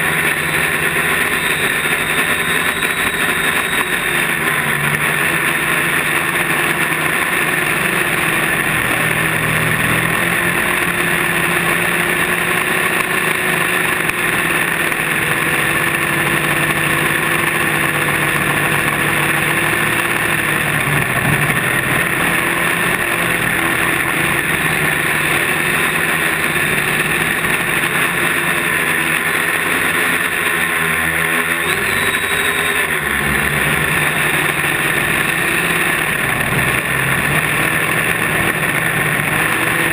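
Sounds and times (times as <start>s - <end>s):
quadcopter motors humming: 0.0s - 39.9s.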